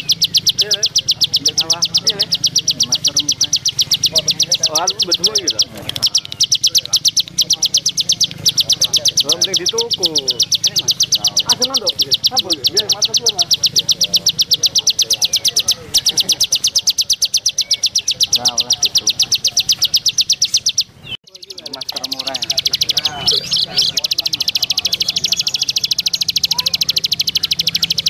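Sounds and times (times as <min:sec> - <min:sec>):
birds chirping and whistling: 0:00.0 - 0:28.0
songbird high pulsed notes: 0:00.0 - 0:28.0.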